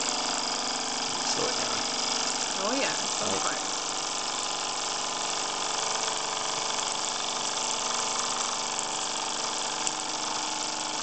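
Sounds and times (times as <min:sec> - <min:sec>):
steam engine hissing: 0:00.0 - 0:09.4.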